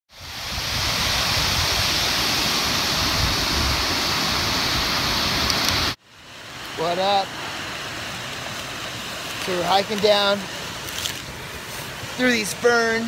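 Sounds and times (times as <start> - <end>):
waterfall rushing: 0.1 - 13.0.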